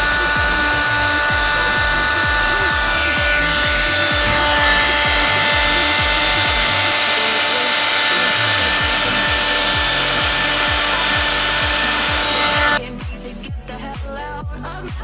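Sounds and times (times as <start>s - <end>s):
hair dryer blowing: 0.0s - 12.8s
background music with a beat: 0.0s - 15.0s.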